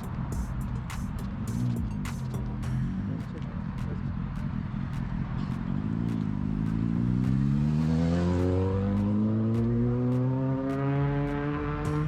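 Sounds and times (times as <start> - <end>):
vehicle engine accelerating: 0.0 - 12.0.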